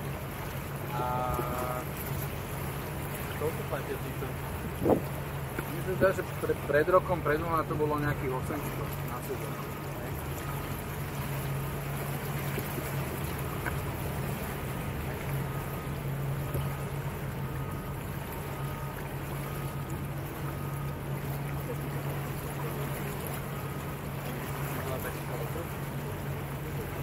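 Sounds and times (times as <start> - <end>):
motorboat engine droning: 0.0 - 27.0
water hissing along hull: 0.0 - 27.0.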